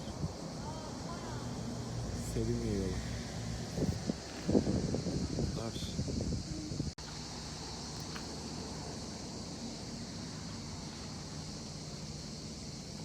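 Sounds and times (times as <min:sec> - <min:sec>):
cicada chorus buzzing: 0:00.0 - 0:13.0.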